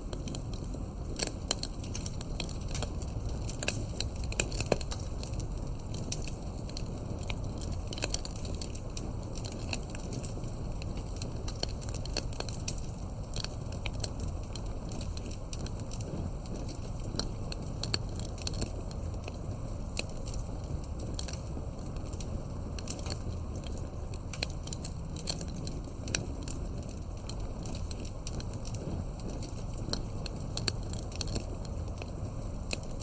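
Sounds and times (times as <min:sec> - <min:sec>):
campfire crackling: 0:00.0 - 0:33.0
low rumble of flames: 0:00.0 - 0:33.0.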